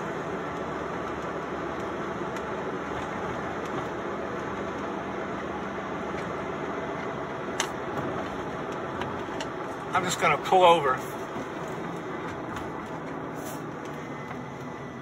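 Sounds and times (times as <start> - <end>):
engine and road noise in cab: 0.0 - 15.0.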